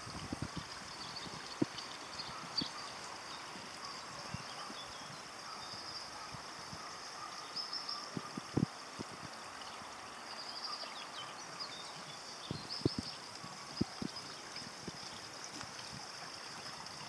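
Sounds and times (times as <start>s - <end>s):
water trickling into a pond: 0.0s - 17.0s.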